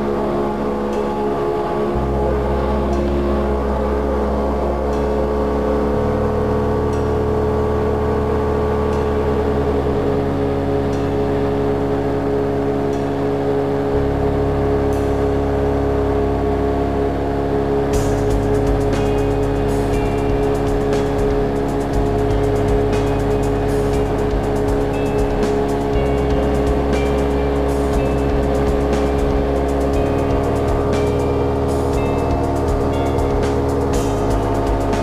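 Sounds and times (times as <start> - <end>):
bass notes: 0.0 - 35.0
synthesizer chords: 0.0 - 35.0.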